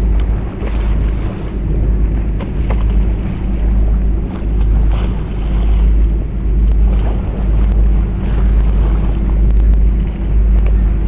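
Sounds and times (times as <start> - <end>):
boat engine drone: 0.0 - 11.0
wind buffeting microphone: 0.0 - 11.0.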